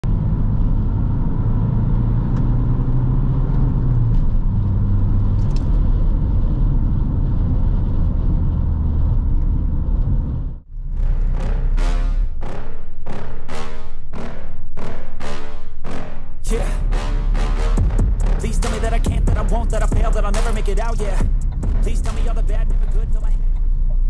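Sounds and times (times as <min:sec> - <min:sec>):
diesel engine droning: 0:00.0 - 0:12.9, 0:16.4 - 0:24.0.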